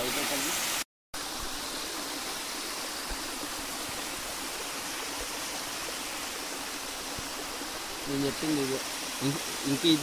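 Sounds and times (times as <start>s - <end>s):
stream water rushing over concrete: 0.0s - 10.0s.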